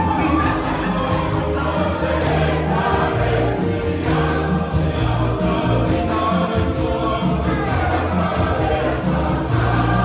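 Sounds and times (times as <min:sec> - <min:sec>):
choir singing a gospel hymn: 0:00.0 - 0:10.0
instrumental backing with bass line: 0:00.0 - 0:10.0.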